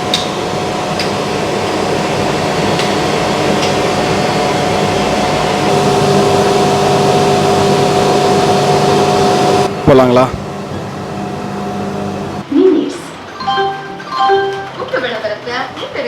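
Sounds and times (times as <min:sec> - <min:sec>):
steady whine: 0:00.0 - 0:13.6.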